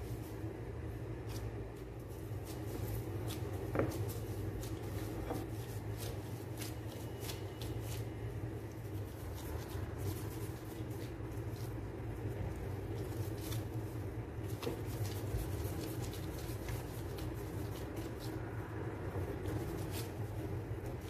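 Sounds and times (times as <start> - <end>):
gloved hands kneading dough: 0.0 - 21.0
steady low hum: 0.0 - 21.0.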